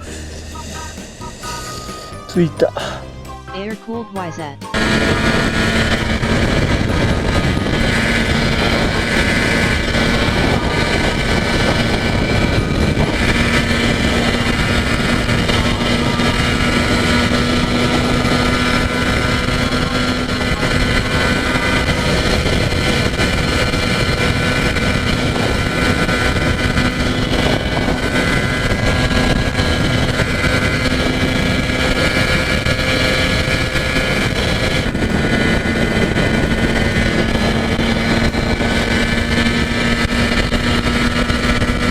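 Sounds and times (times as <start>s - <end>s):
two-stroke engine at high revs: 4.7s - 41.9s
wind noise: 4.7s - 41.9s.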